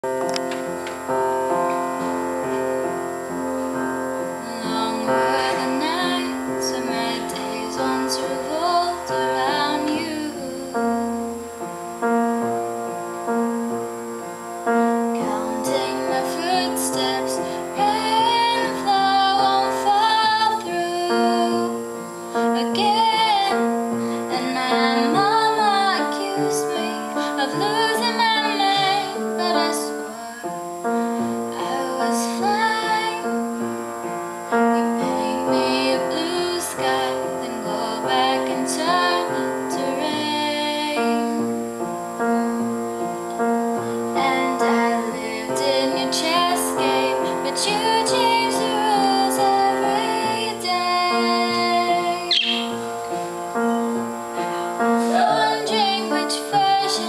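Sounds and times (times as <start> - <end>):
piano accompaniment: 0.0 - 57.0
woman singing a slow ballad: 4.2 - 11.4, 14.8 - 33.8, 34.5 - 52.9, 54.4 - 57.0.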